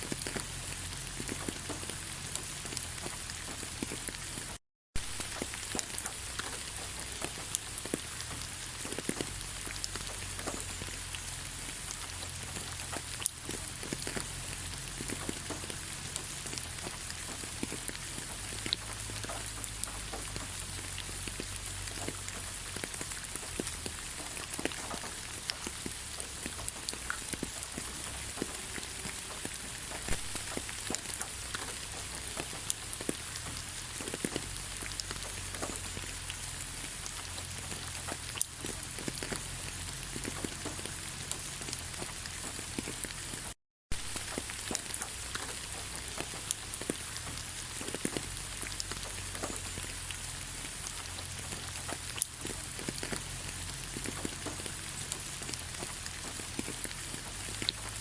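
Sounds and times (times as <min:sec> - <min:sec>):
rain falling: 0:00.0 - 0:58.0
raindrops ticking: 0:00.0 - 0:58.0.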